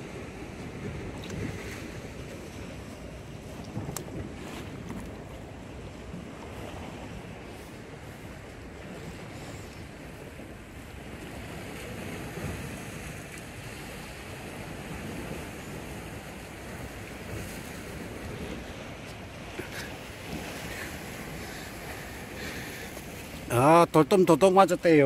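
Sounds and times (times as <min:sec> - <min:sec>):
wind buffeting microphone: 0:00.0 - 0:23.6
surf on rocky shore: 0:00.0 - 0:25.0.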